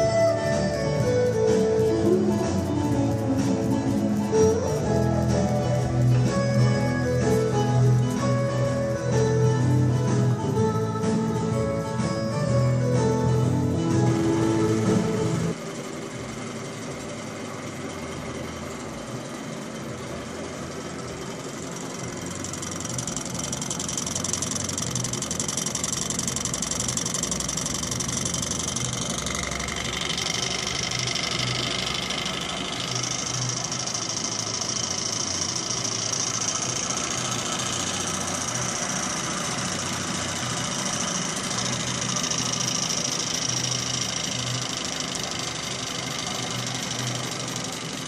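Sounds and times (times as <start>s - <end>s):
model engines clattering: 0.0s - 15.6s, 19.7s - 48.0s
high whirr: 0.0s - 48.0s.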